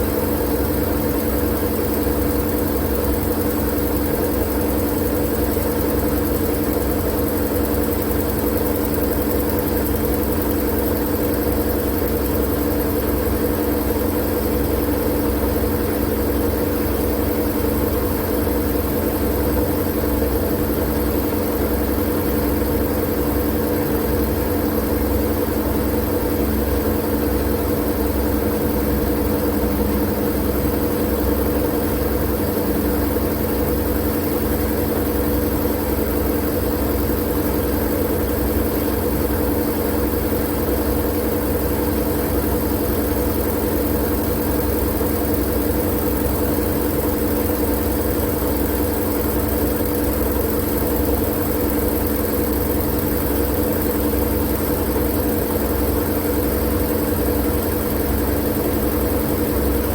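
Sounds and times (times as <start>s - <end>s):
low machine-like hum: 0.0s - 59.9s.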